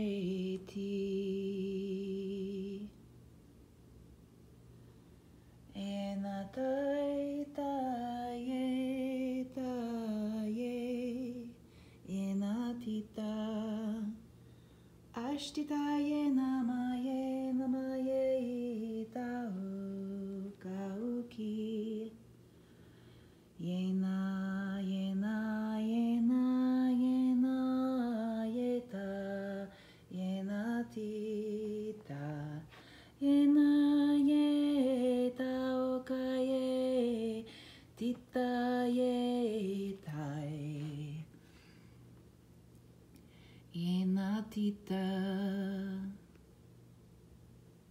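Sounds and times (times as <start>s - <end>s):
woman singing unaccompanied: 0.0s - 3.0s, 5.7s - 14.3s, 15.1s - 22.3s, 23.6s - 41.4s, 43.7s - 46.4s.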